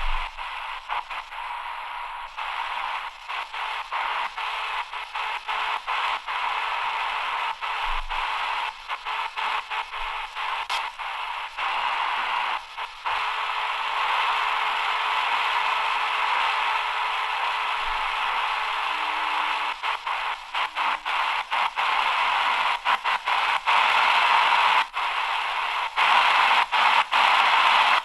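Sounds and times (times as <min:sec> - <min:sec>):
radio static hissing: 0:00.0 - 0:28.0.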